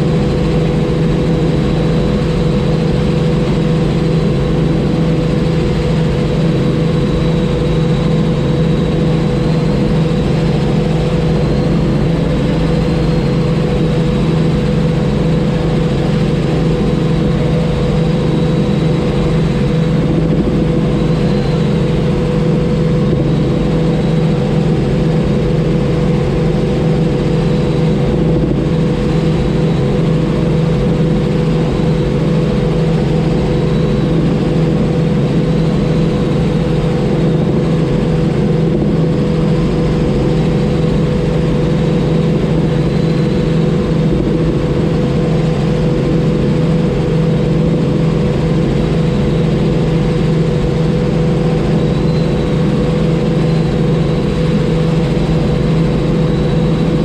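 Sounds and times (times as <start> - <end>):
faint high whine: 0.0 - 57.0
helicopter engine and rotors drone: 0.0 - 57.0.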